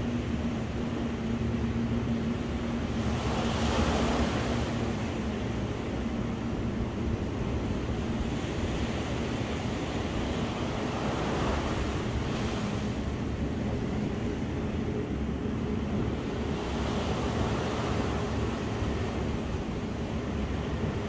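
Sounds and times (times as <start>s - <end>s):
ocean surf washing onto beach: 0.0s - 21.0s.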